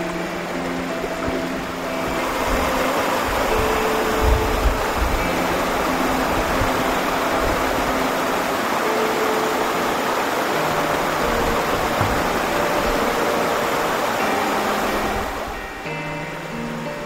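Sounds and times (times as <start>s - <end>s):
waterfall splashing into pool: 0.1s - 15.6s.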